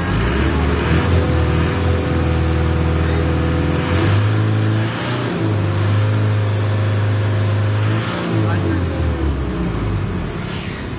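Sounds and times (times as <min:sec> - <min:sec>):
diesel engine revving: 0:00.0 - 0:10.9.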